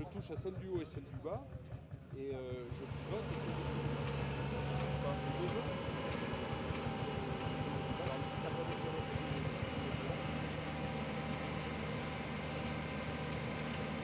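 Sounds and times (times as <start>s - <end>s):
tractor engine droning: 2.6s - 14.0s.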